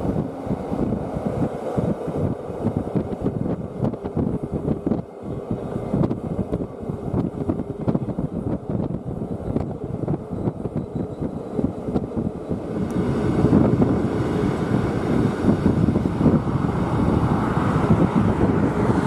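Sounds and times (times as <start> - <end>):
train wheels on rails: 0.0 - 19.0
wind buffeting microphone: 0.0 - 19.0.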